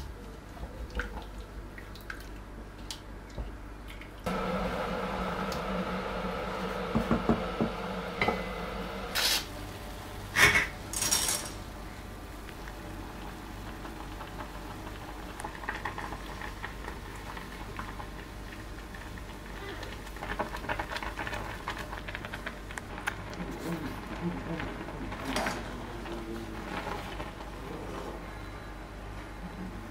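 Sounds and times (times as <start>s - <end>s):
water boiling faintly: 0.0s - 10.4s, 11.7s - 29.9s.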